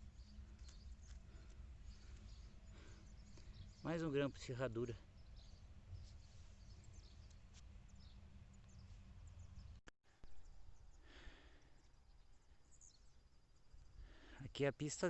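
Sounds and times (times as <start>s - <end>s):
faint bird chirps: 0.0s - 14.7s.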